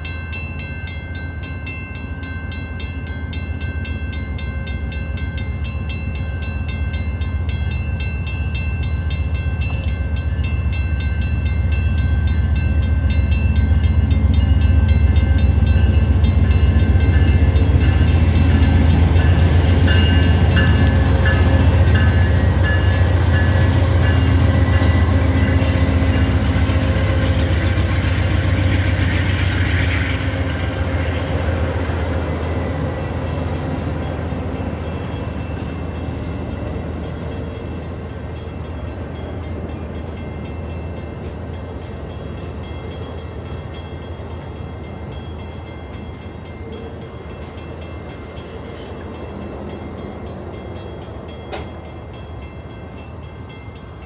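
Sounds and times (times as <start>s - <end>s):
crossing warning bell ringing: 0.0s - 54.0s
train cars rolling on rails: 0.0s - 54.0s
locomotive engine rumble: 3.5s - 53.6s.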